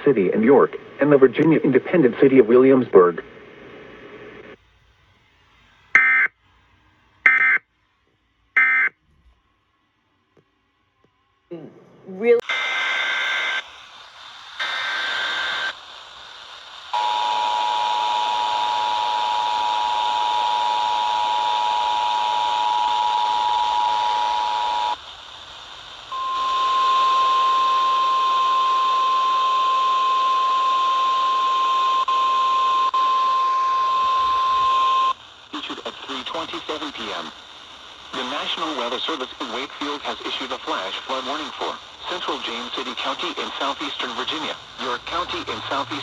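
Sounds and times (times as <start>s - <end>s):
radio hiss: 0.0s - 4.6s, 12.2s - 46.0s.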